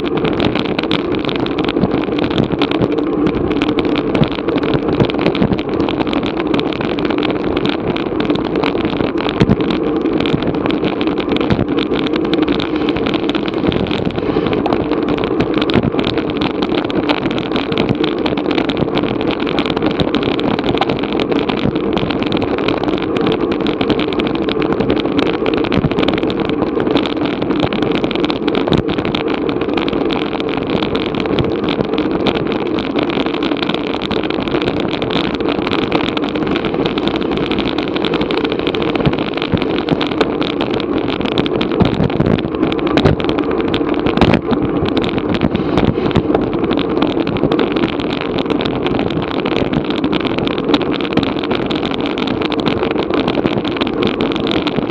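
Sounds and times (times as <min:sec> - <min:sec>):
small crackles: 0:00.0 - 0:54.9
wind buffeting camera: 0:00.0 - 0:54.9.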